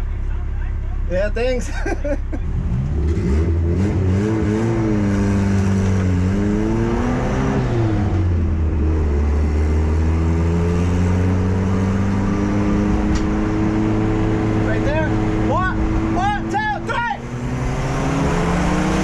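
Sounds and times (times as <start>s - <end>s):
turbocharged car engine revving: 2.1s - 19.0s.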